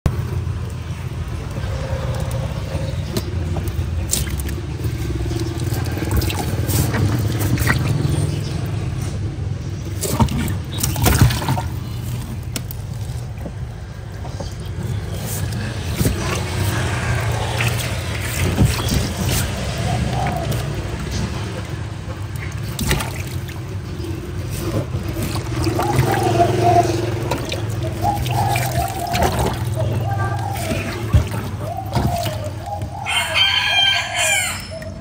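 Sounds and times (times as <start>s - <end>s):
water splashing and knocking: 3.1s - 9.0s, 9.9s - 33.0s.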